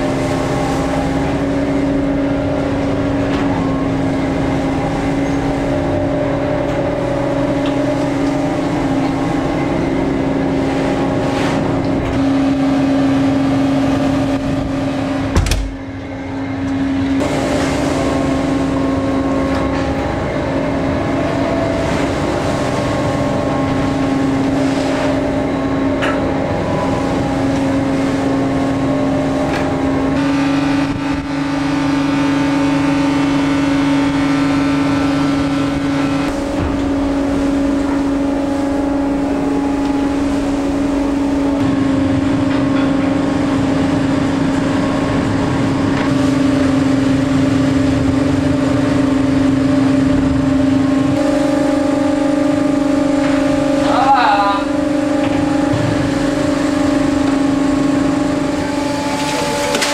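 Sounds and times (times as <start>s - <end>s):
boat engine droning: 0.0s - 59.9s
high whine: 0.0s - 59.9s.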